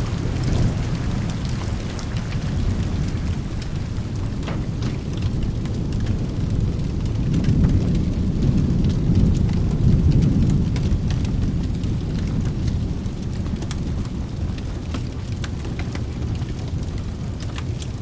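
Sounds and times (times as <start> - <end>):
thunder rumbling: 0.0 - 17.5
soft rain: 0.0 - 18.0
wood fire crackling: 0.0 - 18.0.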